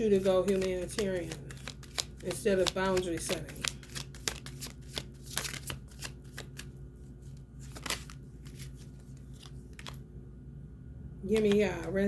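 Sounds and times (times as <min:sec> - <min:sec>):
cards being shuffled: 0:00.0 - 0:10.0, 0:11.3 - 0:12.0.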